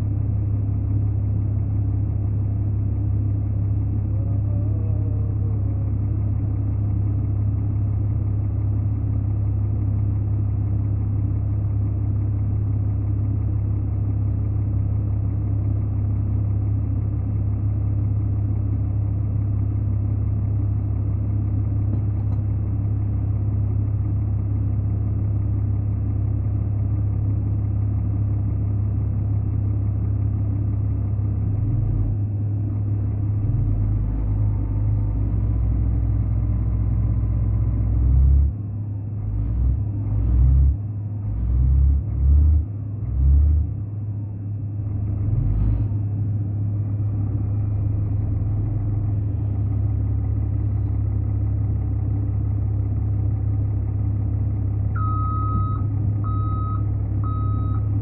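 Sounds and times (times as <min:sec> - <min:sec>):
large engine idling: 0:00.0 - 0:58.0.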